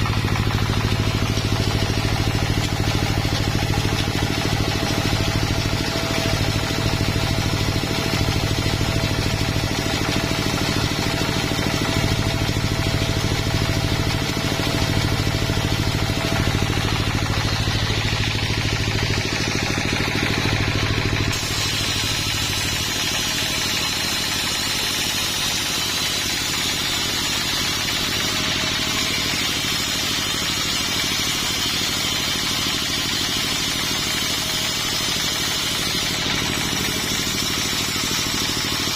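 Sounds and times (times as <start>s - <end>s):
saw running: 0.0s - 38.9s
sawmill engine drone: 0.0s - 38.9s.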